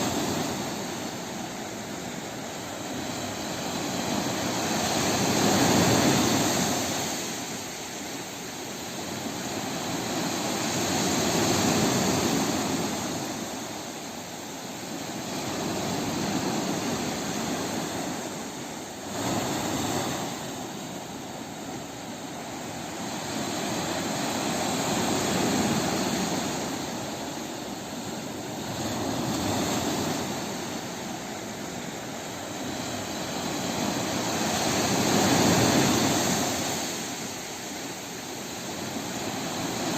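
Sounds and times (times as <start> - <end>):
sea waves rolling in: 0.0 - 39.9.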